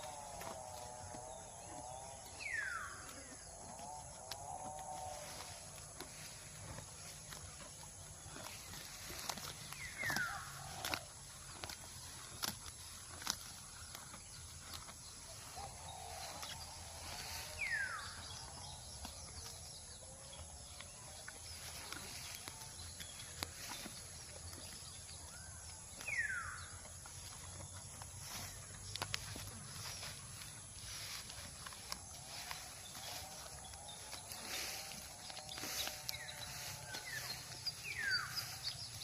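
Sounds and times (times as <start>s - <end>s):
cow tearing and chewing grass: 0.0s - 39.0s.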